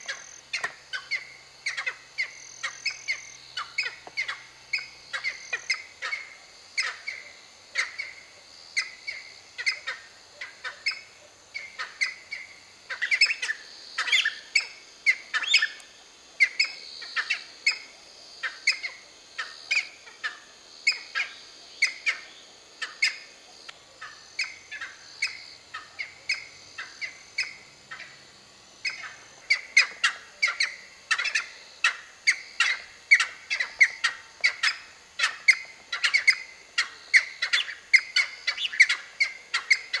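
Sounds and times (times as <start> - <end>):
pheasants calling: 0.0 - 40.0
steady high hiss: 0.0 - 40.0.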